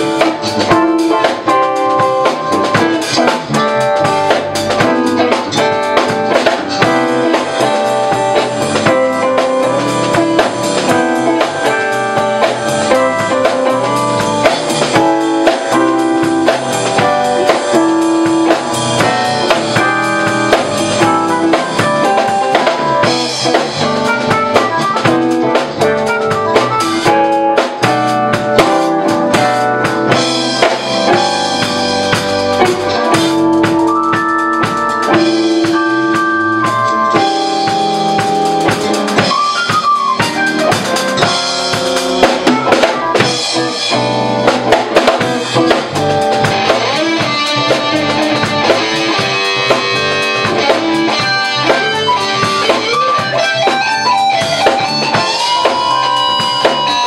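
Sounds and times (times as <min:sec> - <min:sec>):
drum kit: 0:00.0 - 0:57.0
electric bass: 0:00.0 - 0:57.0
electric guitar: 0:00.0 - 0:57.0
electric keyboard: 0:00.0 - 0:57.0.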